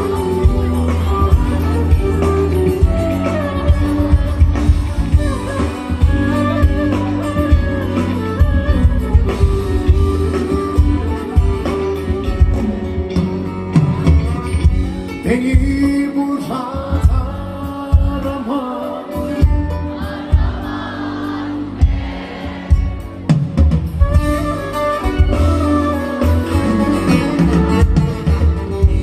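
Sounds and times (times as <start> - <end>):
electric guitar: 0.0 - 20.6, 22.4 - 29.0
drums: 0.0 - 29.0.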